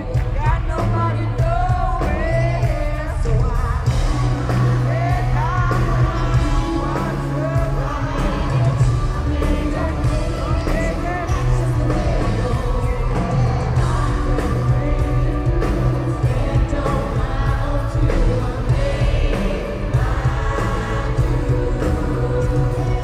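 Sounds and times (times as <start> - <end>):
lead singer singing: 0.0 - 23.0
live pop-rock band: 0.0 - 23.0.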